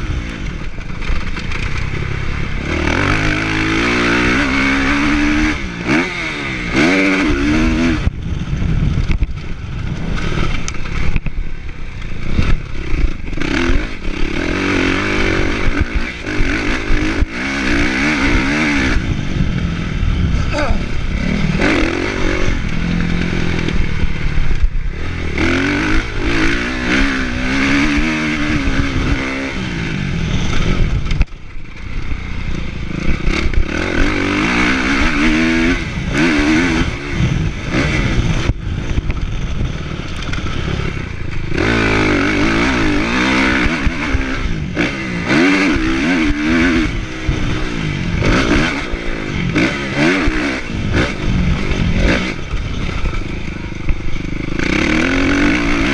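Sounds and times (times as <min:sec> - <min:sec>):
bike rattling over terrain: 0:00.0 - 0:55.9
motocross bike engine revving: 0:00.0 - 0:55.9
wind: 0:00.0 - 0:55.9.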